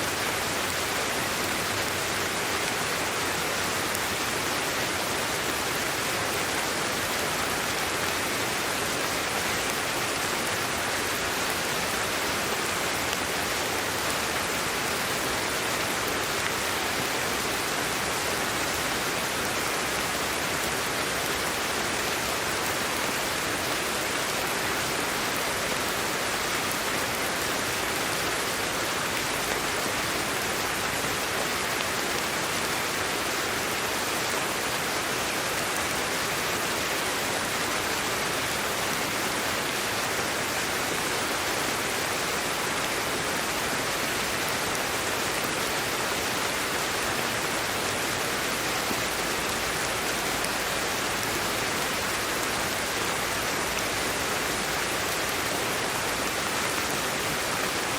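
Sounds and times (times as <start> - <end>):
steady white noise hiss: 0.0 - 57.9.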